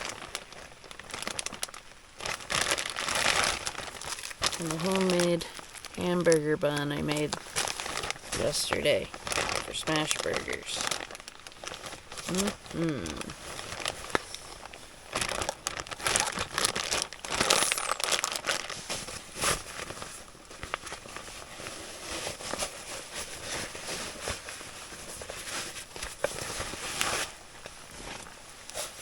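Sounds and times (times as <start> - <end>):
food packaging crinkling: 0.0 - 29.0.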